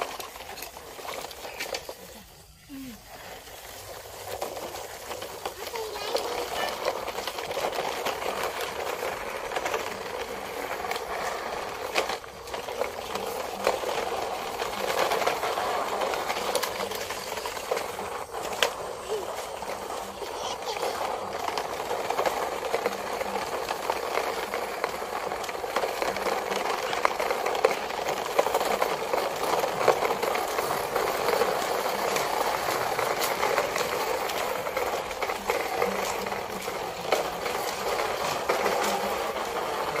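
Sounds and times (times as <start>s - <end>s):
toy truck wheels rattling: 0.0s - 40.0s.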